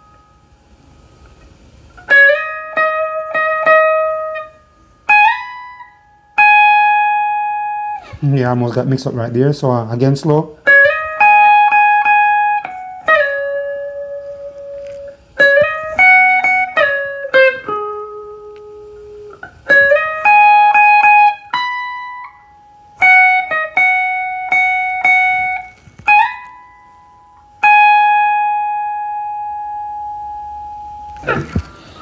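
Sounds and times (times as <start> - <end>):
electric guitar reggae solo: 0.0 - 32.0.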